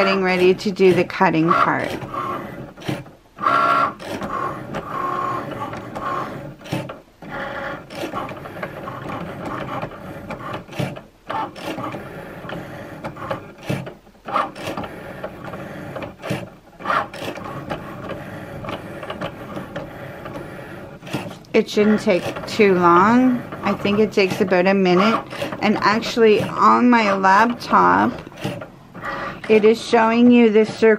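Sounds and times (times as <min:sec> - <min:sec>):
cutting machine motors: 0:00.0 - 0:30.9.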